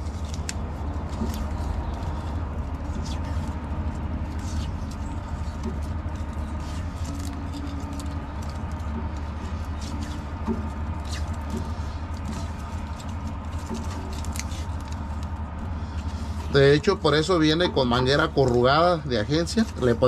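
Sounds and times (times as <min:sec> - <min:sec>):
low hum: 0:00.0 - 0:20.0
tape crackling and rustling: 0:00.0 - 0:20.0.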